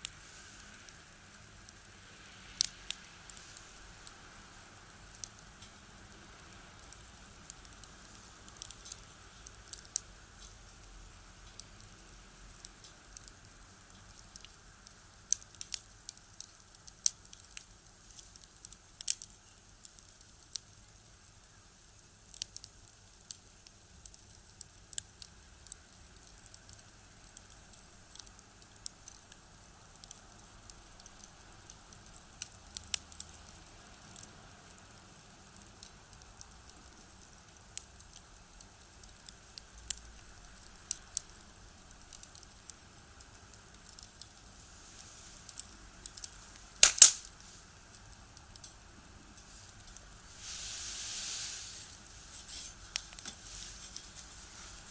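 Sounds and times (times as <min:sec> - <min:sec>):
firewood crackling in a stove: 0:00.0 - 0:54.9.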